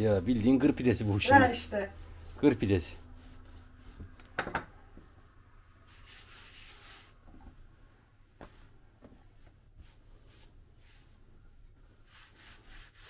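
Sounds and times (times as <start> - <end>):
hands rubbing dough: 0.0 - 13.0.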